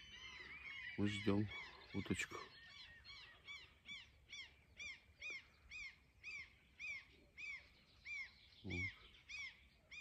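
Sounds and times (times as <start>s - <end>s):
bird calling: 0.0s - 10.0s.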